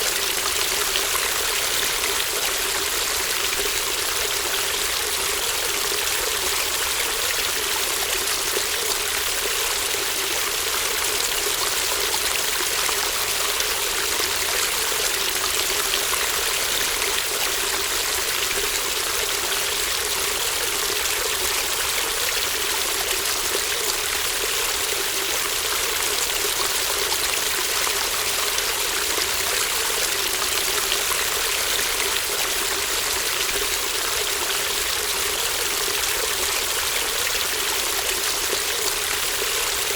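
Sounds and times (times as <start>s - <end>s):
brook water running over stones: 0.0s - 39.9s.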